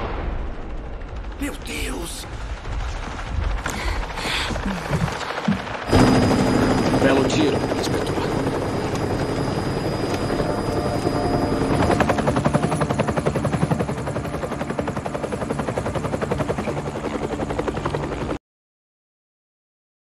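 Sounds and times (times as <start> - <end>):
helicopter rotor chopping: 0.9 - 18.4.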